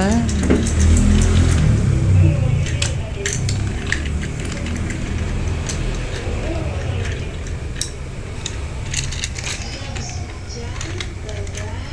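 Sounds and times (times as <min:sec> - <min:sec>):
toy train motor hum: 0:00.0 - 0:11.9
light plastic clicks and clatter: 0:00.1 - 0:01.8, 0:02.5 - 0:11.9.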